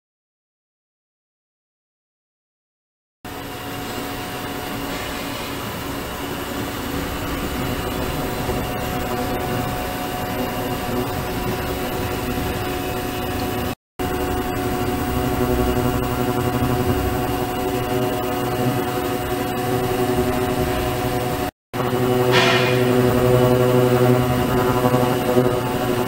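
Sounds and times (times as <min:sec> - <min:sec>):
constant hum: 0:03.3 - 0:26.0.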